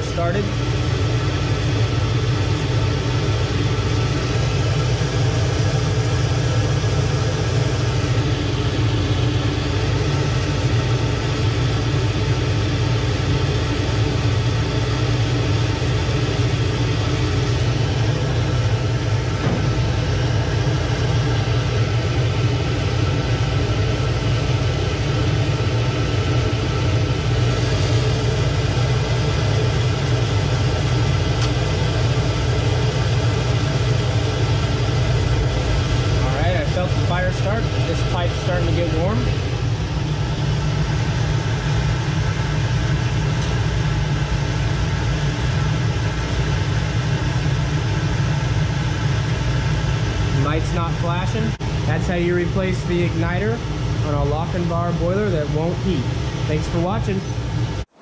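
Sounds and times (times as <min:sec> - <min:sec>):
boiler blower humming: 0:00.0 - 0:58.0.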